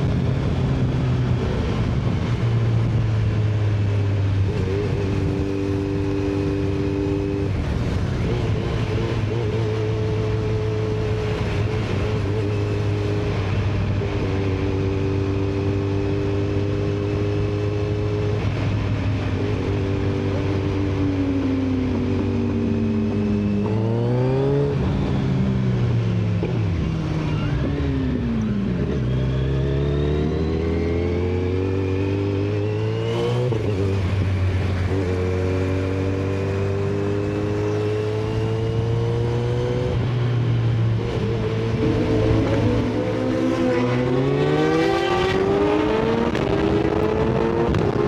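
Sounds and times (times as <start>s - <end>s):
motorcycle engine revving: 0.0s - 48.0s
wind and road noise: 0.0s - 48.0s.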